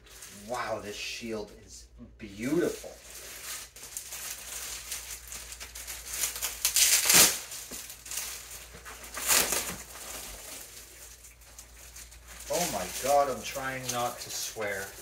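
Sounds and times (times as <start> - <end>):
plastic wrapping crinkling: 0.0 - 0.9, 2.2 - 15.0.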